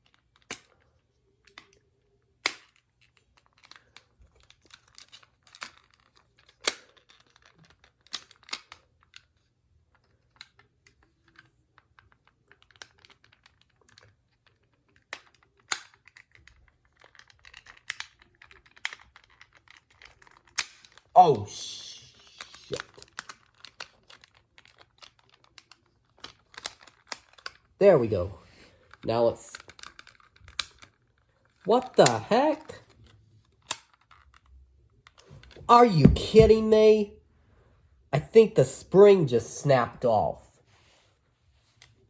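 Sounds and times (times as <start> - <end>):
plastic toy parts clicking: 0.0 - 21.1, 21.8 - 27.8, 28.9 - 36.6.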